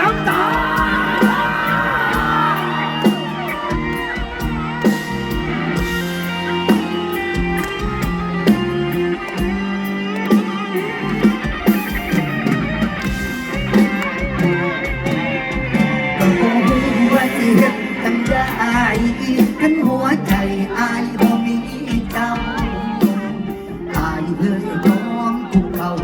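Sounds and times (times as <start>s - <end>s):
lead guitar: 0.0s - 26.0s
live band instrumental music: 0.0s - 26.0s.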